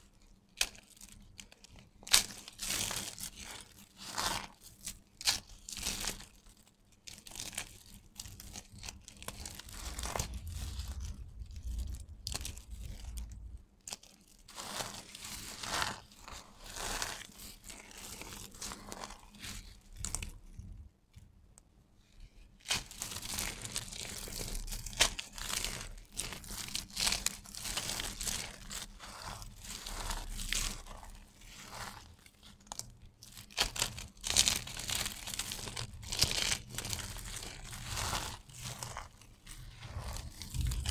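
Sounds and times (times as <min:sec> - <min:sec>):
hands crunching dry soap shavings: 0:00.3 - 0:20.8, 0:22.6 - 0:40.9.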